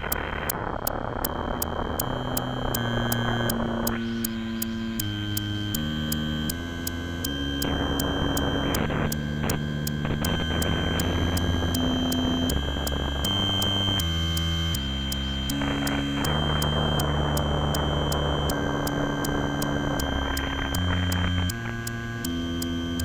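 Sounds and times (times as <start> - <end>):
high synth whine: 0.0 - 23.0
steady clicking pulse: 0.0 - 23.0.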